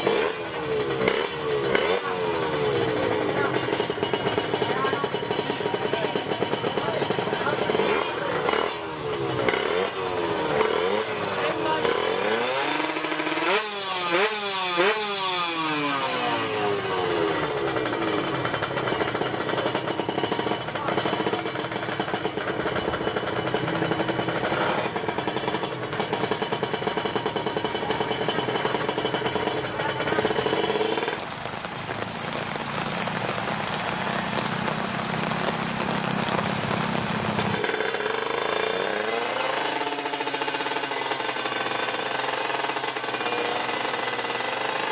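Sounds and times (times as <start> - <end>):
heavy rain falling: 0.0 - 44.9
motorcycle engine revving: 0.0 - 44.9.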